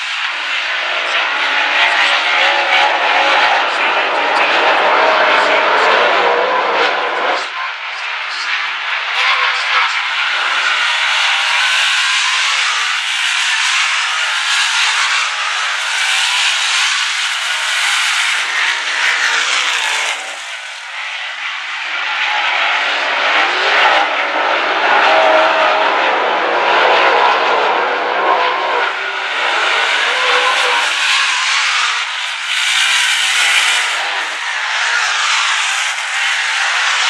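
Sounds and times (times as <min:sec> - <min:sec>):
race car engines at full throttle: 0:00.0 - 0:37.0.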